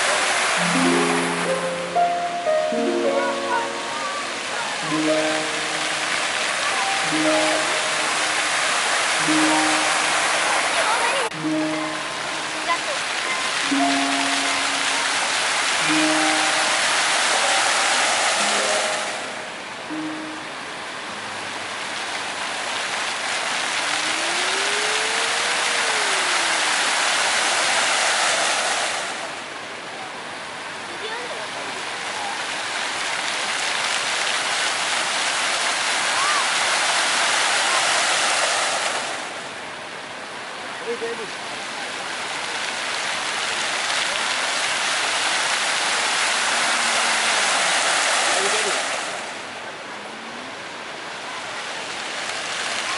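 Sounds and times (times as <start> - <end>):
fountain water jets splashing: 0.0 - 52.9.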